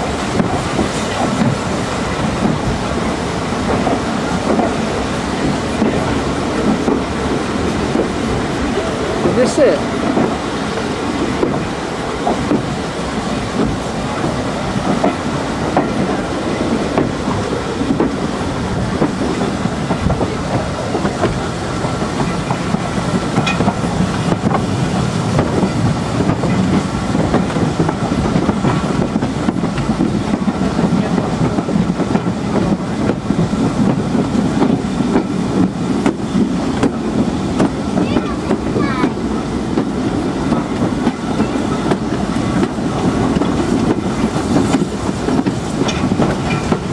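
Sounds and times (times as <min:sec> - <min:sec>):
railway carriage rumble: 0:00.0 - 0:46.9
wheels clattering over rails: 0:00.0 - 0:46.9.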